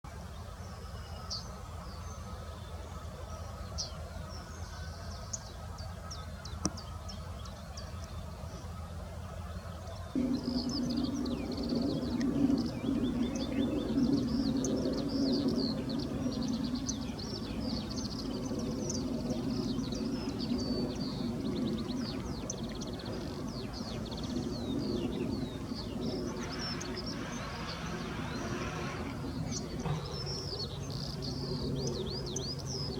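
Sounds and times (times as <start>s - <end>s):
birds chirping and trilling: 0.1s - 32.9s
steady low hum: 0.1s - 32.9s.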